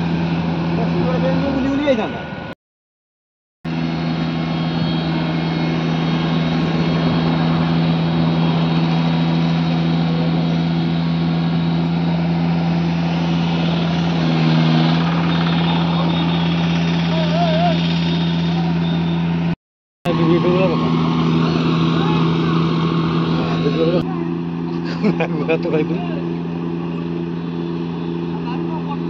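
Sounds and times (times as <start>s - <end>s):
tractor diesel engine running: 0.0s - 2.6s, 3.7s - 29.0s.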